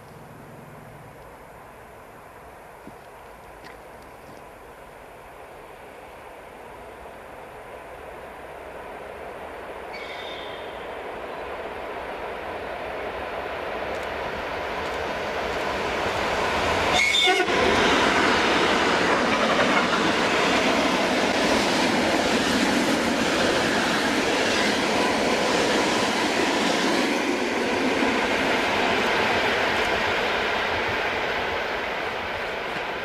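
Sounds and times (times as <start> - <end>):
train passing at speed: 5.3 - 33.0.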